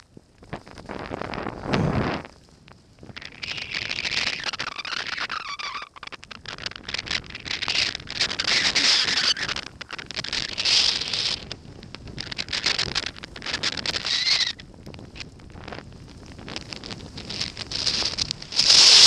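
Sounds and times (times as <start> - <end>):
wind buffeting microphone: 0.0 - 5.4, 6.0 - 19.0
skis hissing through snow: 0.7 - 2.5, 3.3 - 14.5, 16.1 - 19.0.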